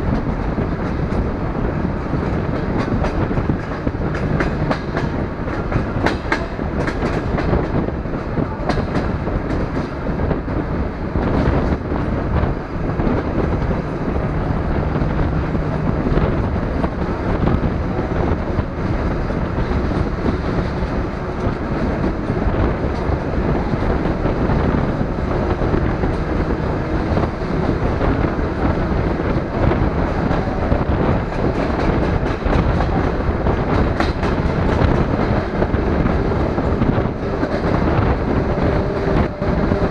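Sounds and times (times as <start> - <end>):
train wheels rumbling on rail: 0.0 - 39.9
wheels clicking over rail joints: 0.0 - 39.9.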